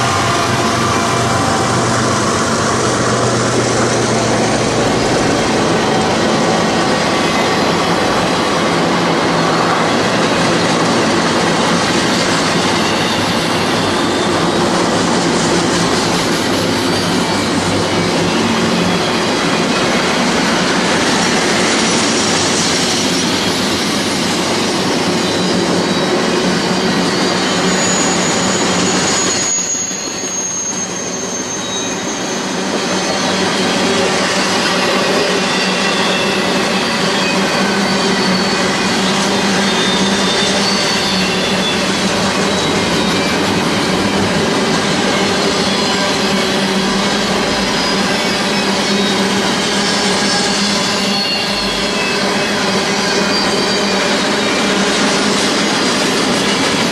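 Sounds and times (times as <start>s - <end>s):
high wheel squeal: 0.0s - 56.9s
train wheels rumbling on rail: 0.0s - 56.9s.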